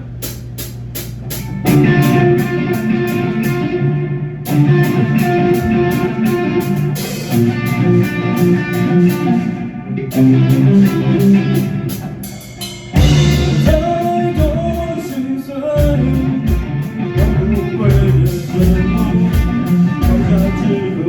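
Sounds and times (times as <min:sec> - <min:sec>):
bass guitar: 0:00.0 - 0:21.0
electric guitar: 0:01.2 - 0:21.0.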